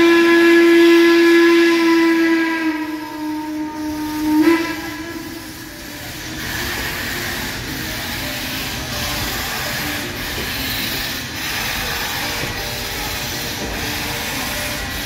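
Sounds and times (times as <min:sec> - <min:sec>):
steam locomotive exhaust chuffing: 0:00.0 - 0:15.0.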